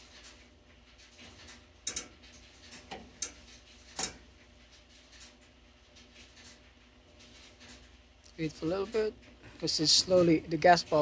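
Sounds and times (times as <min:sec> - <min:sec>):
furnace humming: 0:00.0 - 0:11.0.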